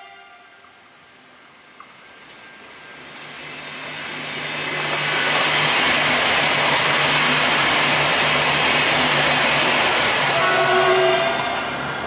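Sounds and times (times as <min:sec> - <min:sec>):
train passing at speed: 0:00.0 - 0:12.0
wheel and rail noise: 0:00.6 - 0:12.0.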